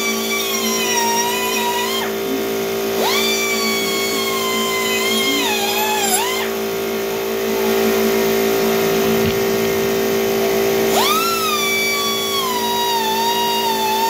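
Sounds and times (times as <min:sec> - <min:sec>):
air die grinder running: 0:00.0 - 0:14.0.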